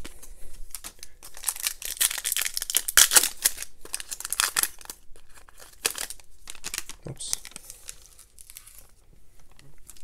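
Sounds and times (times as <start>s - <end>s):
plastic foil wrapper crinkling: 0.7s - 10.0s.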